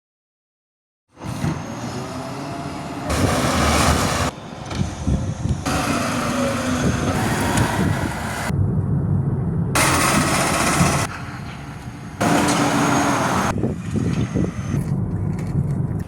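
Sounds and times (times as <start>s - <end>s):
truck engine running: 1.2s - 16.0s.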